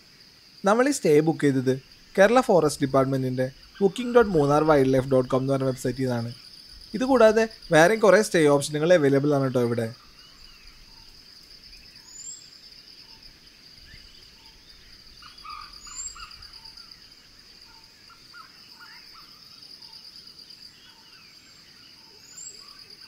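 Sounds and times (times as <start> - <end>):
forest birds calling: 0.0 - 23.0
insect high-pitched trill: 0.0 - 23.0.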